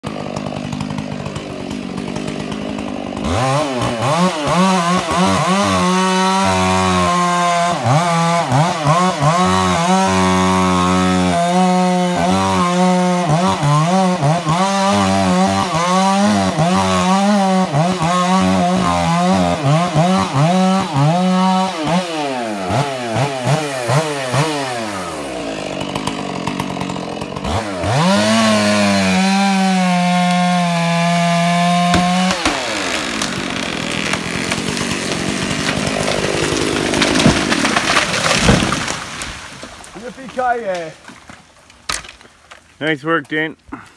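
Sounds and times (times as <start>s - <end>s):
chainsaw revving while cutting: 0.0s - 39.3s.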